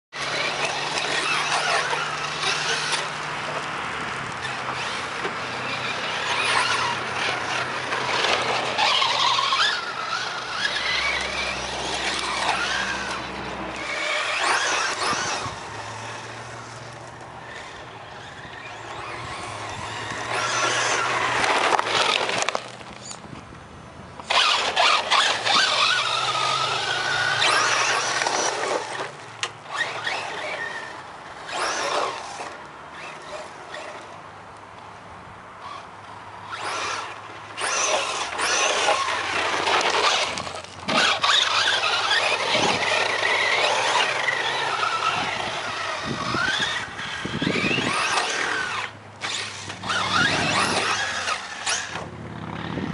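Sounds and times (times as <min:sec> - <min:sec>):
tyres scrabbling on loose dirt: 0:00.1 - 0:34.9, 0:35.6 - 0:52.9
electric motor whining: 0:00.2 - 0:03.7, 0:04.3 - 0:23.1, 0:24.2 - 0:33.9, 0:36.5 - 0:52.9.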